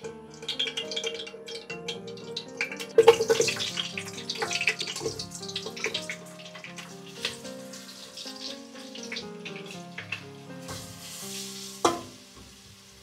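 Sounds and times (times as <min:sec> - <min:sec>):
background music: 0:00.0 - 0:13.0
water running from tap: 0:00.0 - 0:13.0.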